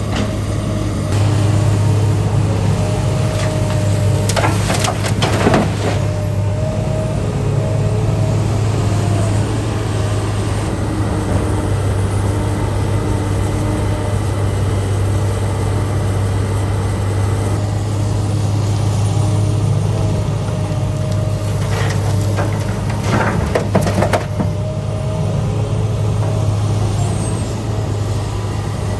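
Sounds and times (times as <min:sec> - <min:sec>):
heavy diesel engine droning: 0:00.0 - 0:28.9.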